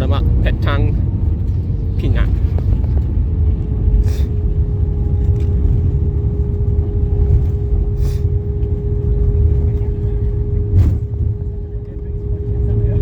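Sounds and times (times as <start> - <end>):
constant hum: 0.0 - 13.0
engine and airflow rumble: 0.0 - 13.0.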